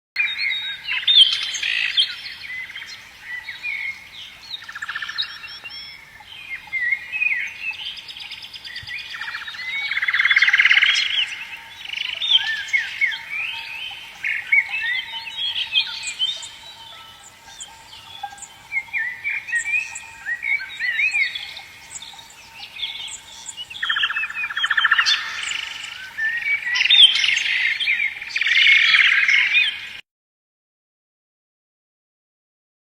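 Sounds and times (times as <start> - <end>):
songbirds singing and calling: 0.2 - 30.0.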